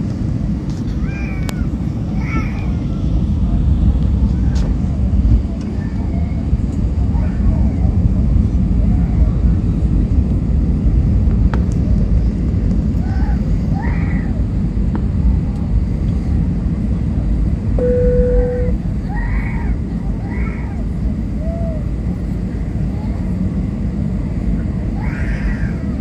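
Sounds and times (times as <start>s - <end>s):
airliner cabin roar: 0.0s - 26.0s.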